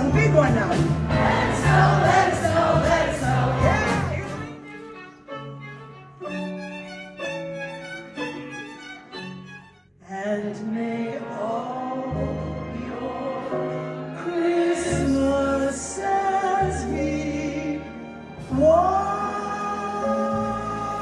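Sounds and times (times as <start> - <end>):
symphony orchestra playing: 0.0 - 9.8, 10.9 - 21.0.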